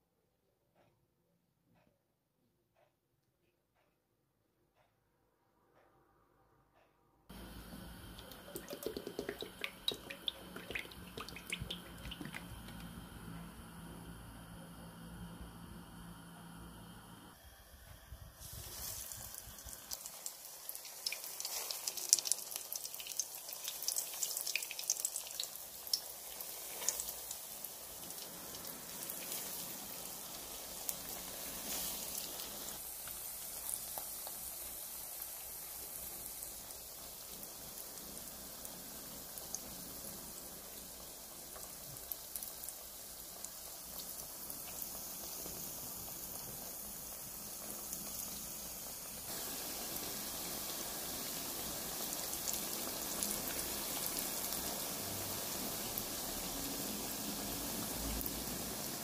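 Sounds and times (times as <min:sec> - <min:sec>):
patties sizzling in hot oil: 0:07.3 - 0:14.2, 0:18.4 - 0:59.0.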